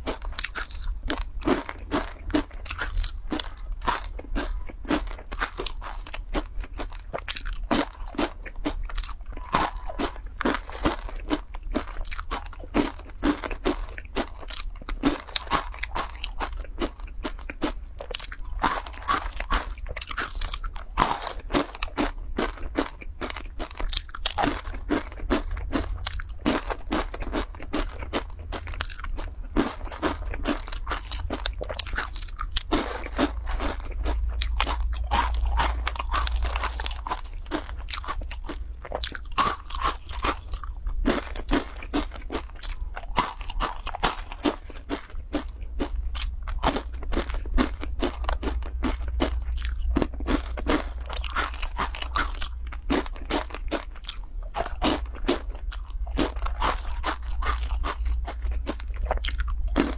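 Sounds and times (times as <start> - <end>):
crunching and chewing snack: 0.0 - 59.9.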